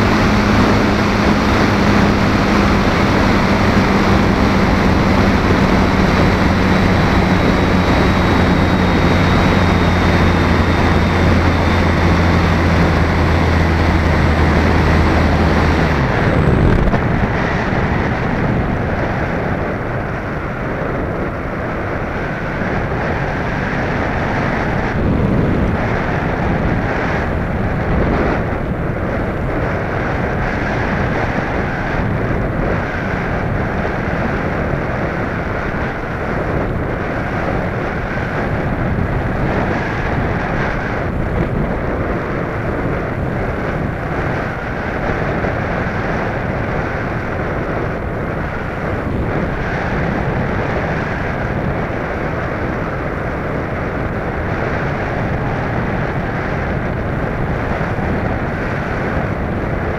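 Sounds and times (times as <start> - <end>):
airflow buffeting microphone: 0.0 - 59.9.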